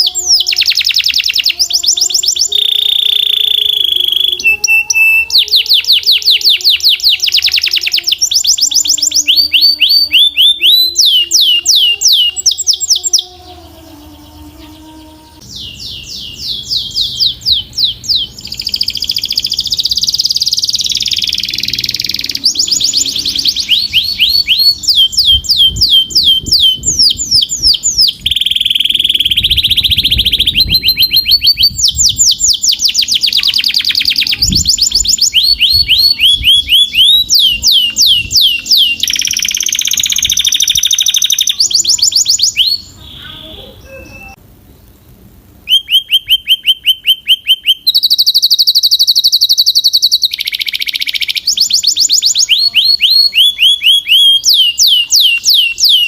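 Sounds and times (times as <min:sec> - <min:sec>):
canary singing: 0:00.0 - 0:45.0, 0:45.6 - 0:56.0.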